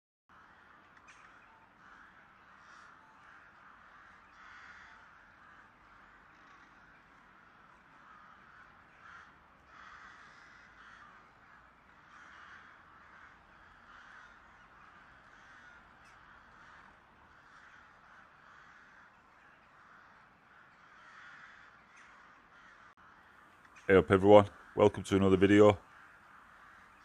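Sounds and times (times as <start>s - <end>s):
crows cawing: 0.3s - 27.0s.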